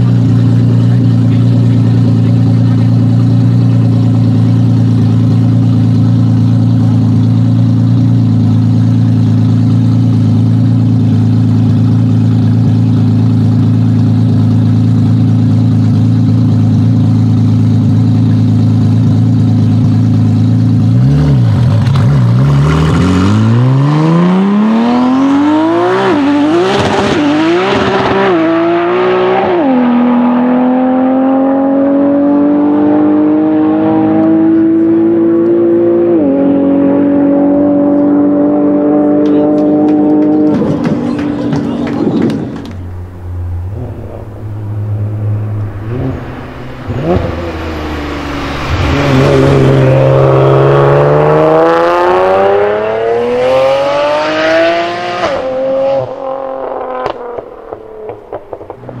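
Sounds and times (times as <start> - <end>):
car engine running and accelerating: 0.0 - 59.0.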